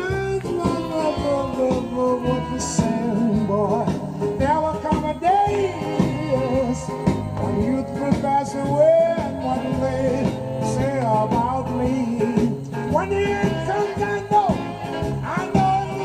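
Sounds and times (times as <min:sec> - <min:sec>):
song with voice and guitar on radio: 0:00.0 - 0:16.0.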